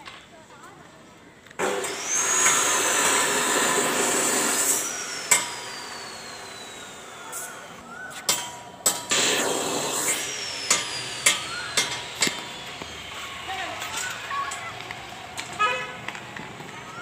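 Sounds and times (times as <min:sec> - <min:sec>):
motor grinding and whining: 0:01.6 - 0:17.0.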